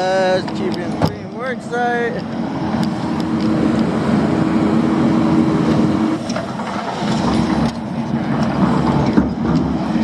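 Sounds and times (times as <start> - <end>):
heavy machine engine humming: 0.0 - 10.0.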